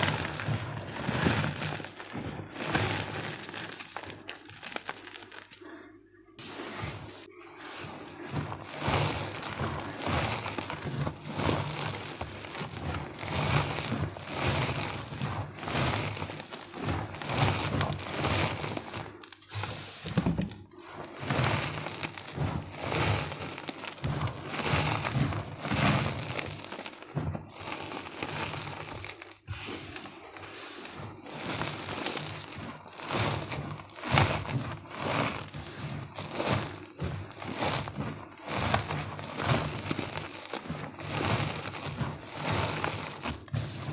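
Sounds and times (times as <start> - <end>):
chalk being crushed: 0.0 - 5.7, 6.4 - 43.9.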